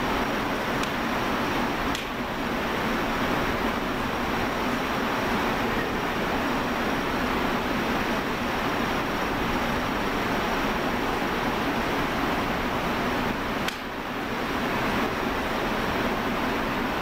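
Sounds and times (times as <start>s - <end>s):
factory floor rushing noise: 0.0s - 17.0s.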